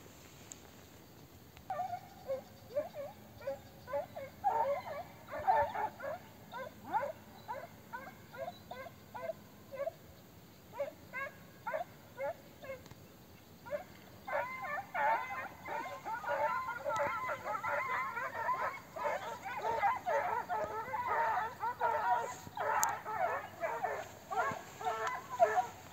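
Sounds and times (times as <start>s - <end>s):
hounds baying: 1.7s - 10.0s, 10.8s - 12.8s, 13.7s - 25.9s.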